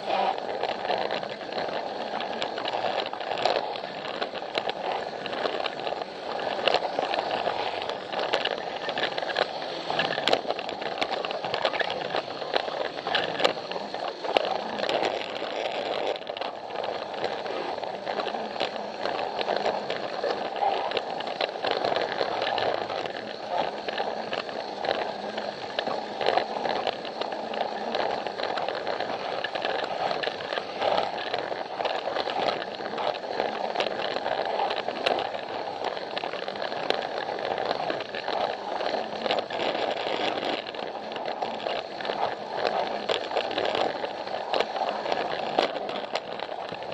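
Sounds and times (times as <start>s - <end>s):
toy train motor whir: 0.0s - 46.9s
wheels clicking on plastic track: 0.0s - 46.9s.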